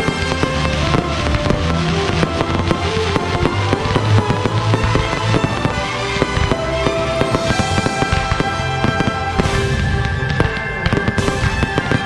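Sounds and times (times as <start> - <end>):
fireworks bangs and crackling: 0.0 - 12.0
music playing: 0.0 - 12.0.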